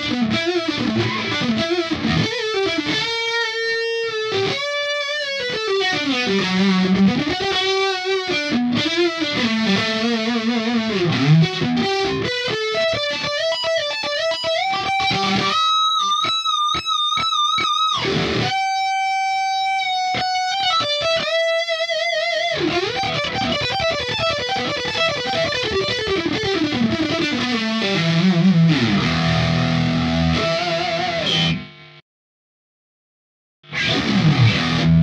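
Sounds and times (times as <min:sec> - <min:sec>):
distorted electric guitar: 0:00.0 - 0:32.0, 0:33.6 - 0:35.0.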